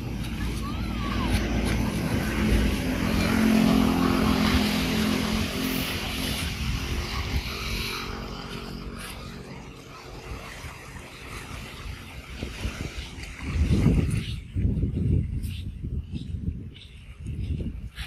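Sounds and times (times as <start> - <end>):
distant engine droning: 0.0 - 14.5.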